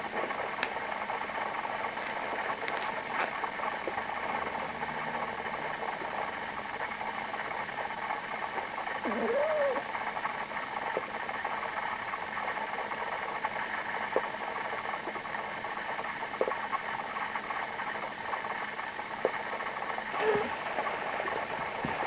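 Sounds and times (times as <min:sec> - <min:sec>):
steady whirring hum: 0:00.0 - 0:22.0.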